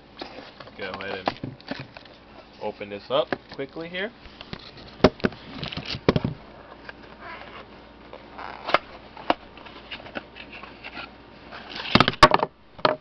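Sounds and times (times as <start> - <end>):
cardboard and plastic rustling: 0.1 - 12.4.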